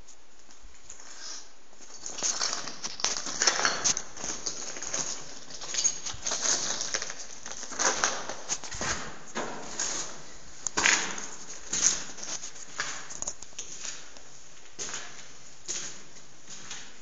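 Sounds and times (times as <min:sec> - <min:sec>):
footsteps scuffing and crunching: 0:01.7 - 0:17.0.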